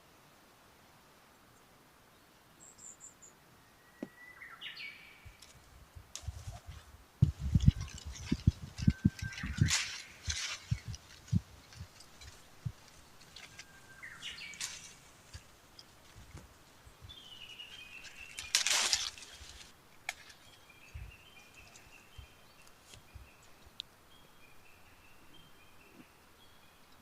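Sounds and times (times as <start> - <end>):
small birds chirping: 1.6 - 27.0.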